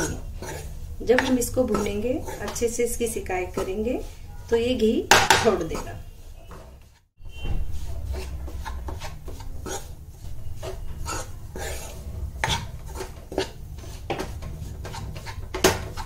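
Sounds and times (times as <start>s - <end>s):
spoon scraping and knocking pan: 0.0s - 16.0s.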